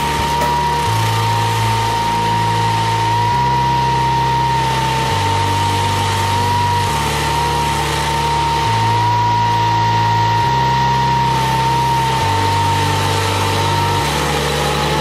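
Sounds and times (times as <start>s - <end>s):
background music with bass: 0.0s - 15.0s
stump grinder engine whining: 0.0s - 15.0s.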